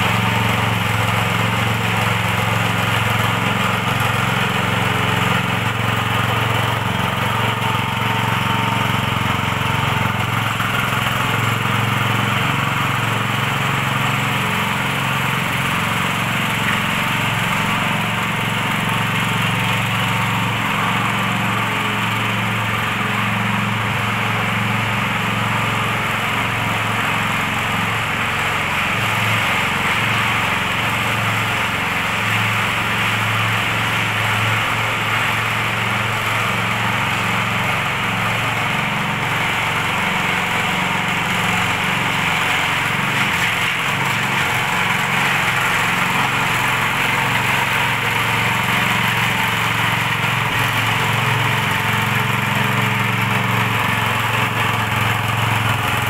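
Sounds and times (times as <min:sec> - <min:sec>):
power trowel petrol engine running: 0:00.0 - 0:56.0.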